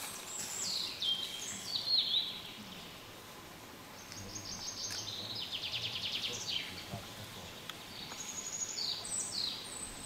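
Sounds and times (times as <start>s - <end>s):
songbirds singing: 0.0s - 10.0s.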